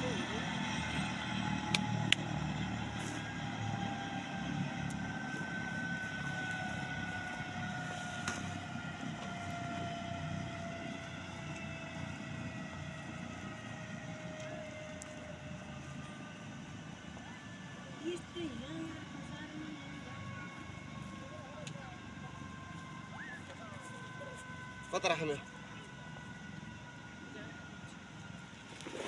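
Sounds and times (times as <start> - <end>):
helicopter turbine whine and rotor: 0.0 - 29.0.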